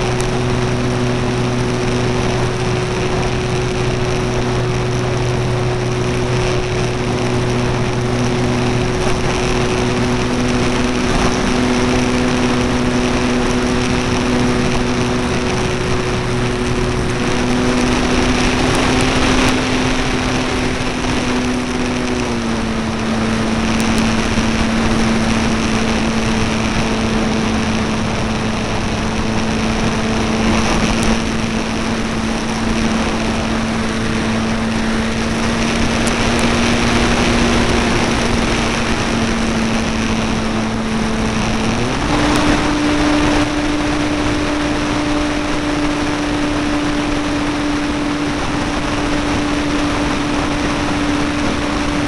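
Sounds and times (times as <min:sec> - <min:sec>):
electric motor and propeller humming: 0:00.0 - 0:52.0
rushing wind: 0:00.0 - 0:52.0.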